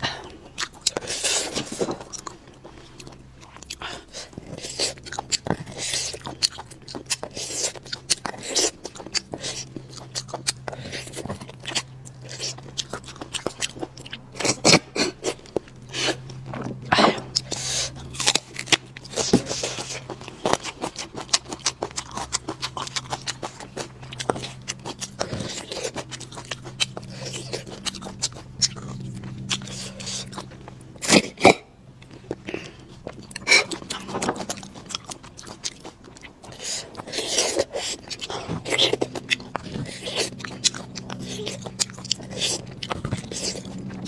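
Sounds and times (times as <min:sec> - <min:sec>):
faint low hum: 0:00.0 - 0:44.0
slurping and chewing: 0:00.0 - 0:44.0.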